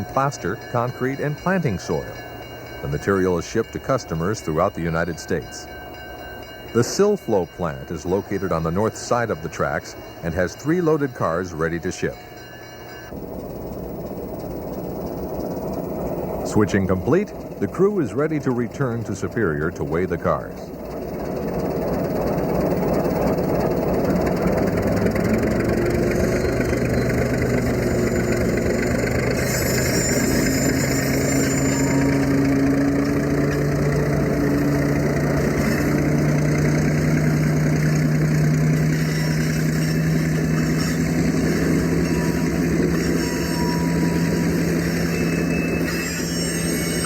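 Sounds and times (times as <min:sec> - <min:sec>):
diesel locomotive engine droning: 0:00.0 - 0:47.0.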